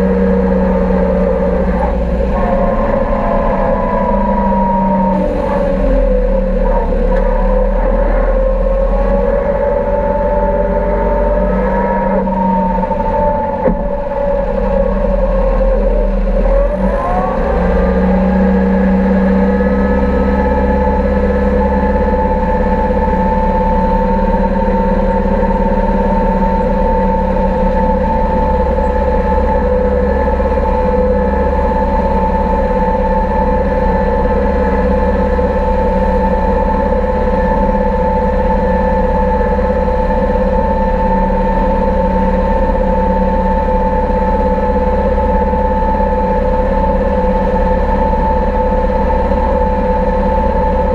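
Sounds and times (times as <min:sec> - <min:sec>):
mower mechanical whine: 0:00.0 - 0:50.9
tractor diesel engine rumble: 0:00.0 - 0:50.9.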